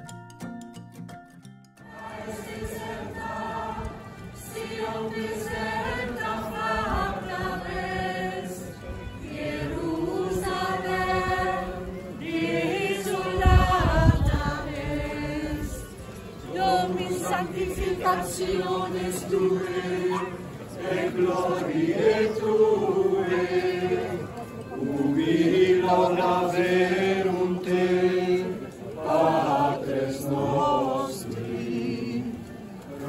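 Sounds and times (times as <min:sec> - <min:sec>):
choir singing: 0:01.8 - 0:33.0.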